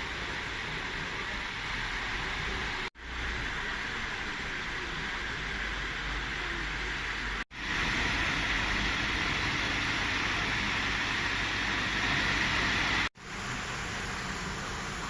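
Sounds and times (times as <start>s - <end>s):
washing machine hissing: 0.0s - 15.0s.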